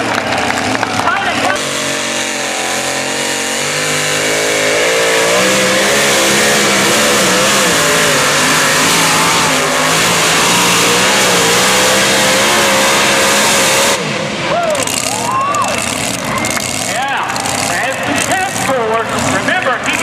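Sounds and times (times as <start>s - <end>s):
diesel tractor engine under load: 0.0s - 20.0s.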